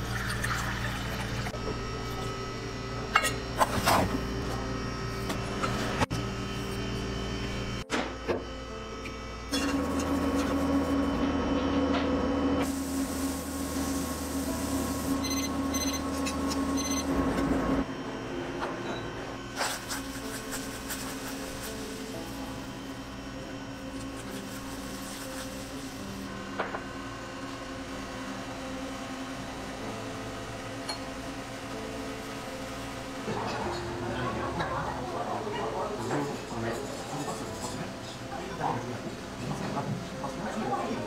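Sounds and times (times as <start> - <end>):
electrical humming of kitchen equipment: 0.0 - 41.0
higher electrical hum: 0.0 - 41.0.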